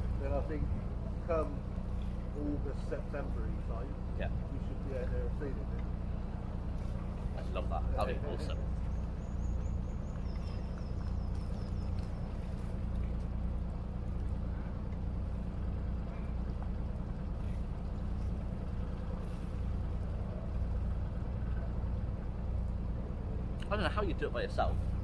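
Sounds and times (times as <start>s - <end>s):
boat engine low rumble: 0.0s - 25.0s.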